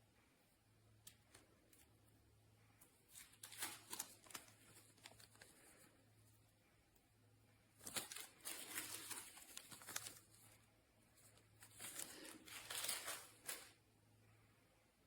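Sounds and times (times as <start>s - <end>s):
crinkling and rustling handling noise: 0.8s - 14.0s.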